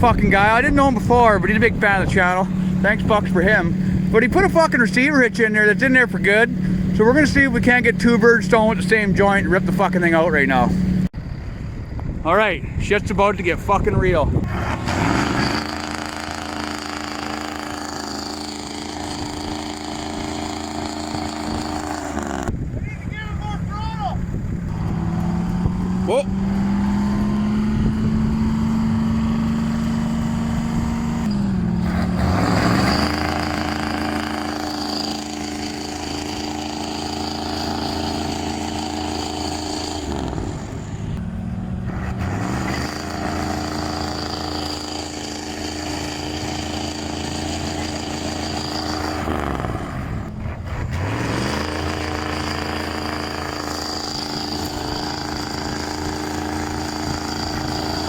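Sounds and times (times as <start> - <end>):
diesel truck engine under load: 0.0 - 58.0.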